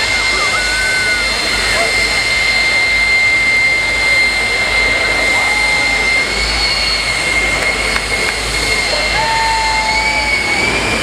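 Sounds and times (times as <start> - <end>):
jet engine whining and roaring: 0.0 - 11.0.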